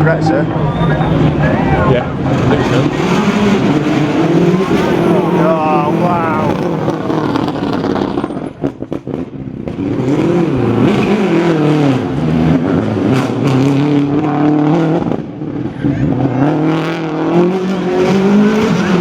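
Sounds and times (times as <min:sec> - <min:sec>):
rally car engine revving past: 0:00.0 - 0:19.0.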